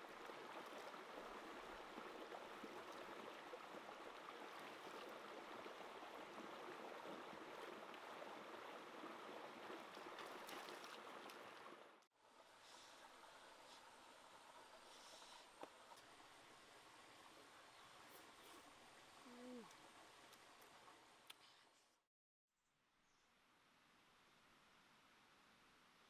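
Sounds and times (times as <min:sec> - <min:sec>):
stream flowing: 0:00.0 - 0:21.3.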